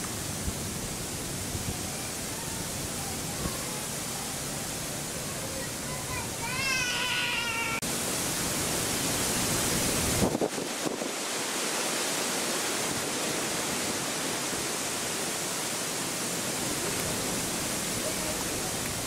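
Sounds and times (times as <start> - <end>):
rain and wind hiss: 0.0 - 19.0.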